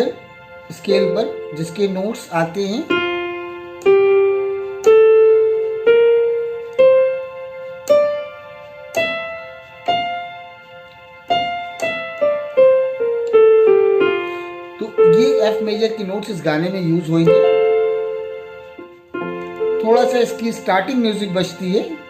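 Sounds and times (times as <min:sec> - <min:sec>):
piano scale on electronic keyboard: 0:00.0 - 0:22.0.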